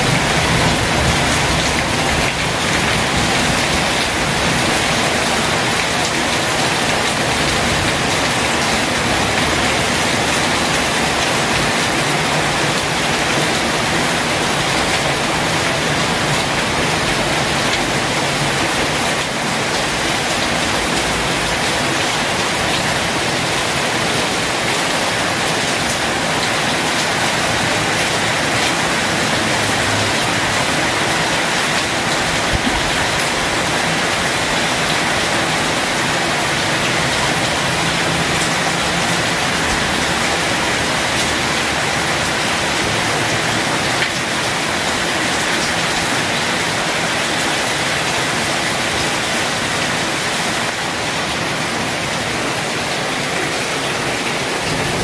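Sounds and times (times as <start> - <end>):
heavy rain on concrete: 0.0 - 55.0.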